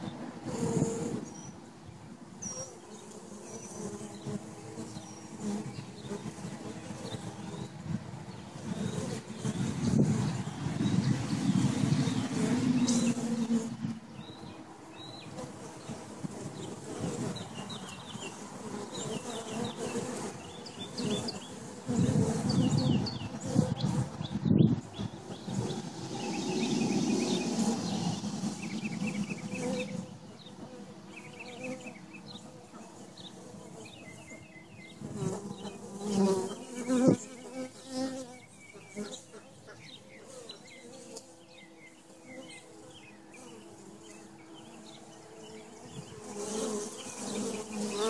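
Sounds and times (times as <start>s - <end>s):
honeybees buzzing: 0.0s - 48.0s.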